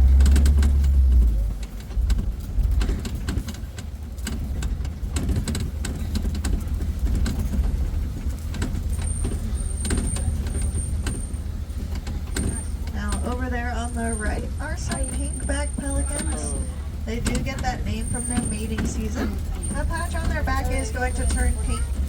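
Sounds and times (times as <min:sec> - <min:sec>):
rattles and knocks: 0:00.0 - 0:22.0
truck engine and road rumble: 0:00.0 - 0:22.0.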